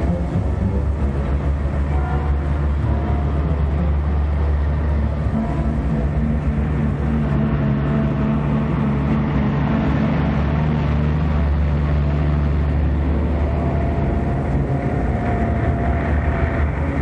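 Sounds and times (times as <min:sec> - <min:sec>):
truck engines droning: 0:00.0 - 0:17.0.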